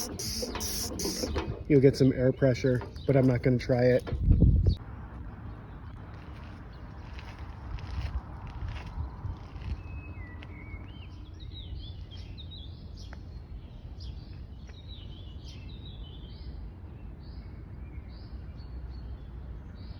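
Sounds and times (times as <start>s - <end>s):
songbird singing: 0.0s - 7.0s, 9.6s - 19.9s.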